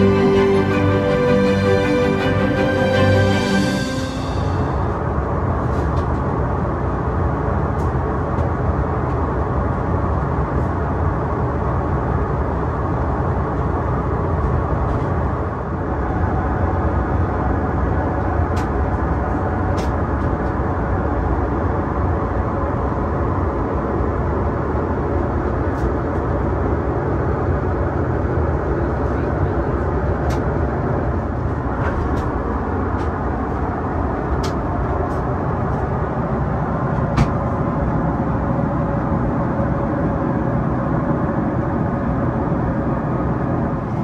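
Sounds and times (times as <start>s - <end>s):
airplane cabin rush: 0.0s - 44.0s.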